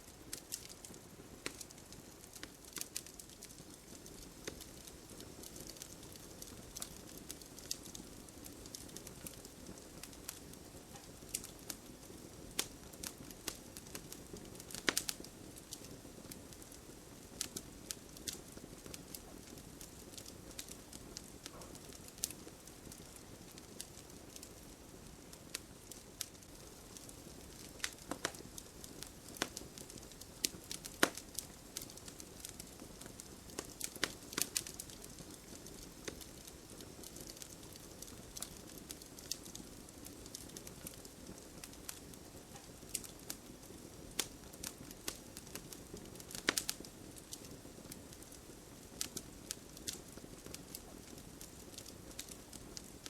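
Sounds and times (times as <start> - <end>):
hiss of burning wood: 0.0 - 53.0
campfire crackling and popping: 0.1 - 53.0.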